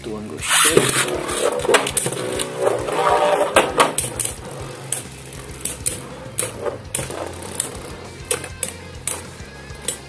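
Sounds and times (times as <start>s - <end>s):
spinning tops clashing: 0.4s - 10.0s.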